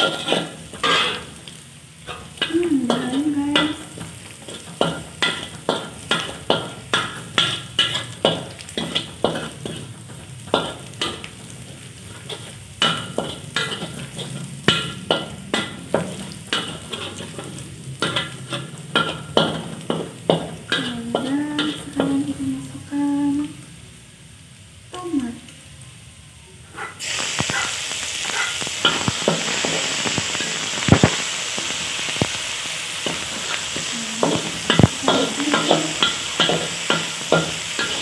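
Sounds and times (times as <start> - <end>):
metal spatula scraping a wok: 0.0 - 22.3, 26.7 - 32.3, 33.0 - 38.0
food sizzling in hot oil: 0.0 - 38.0.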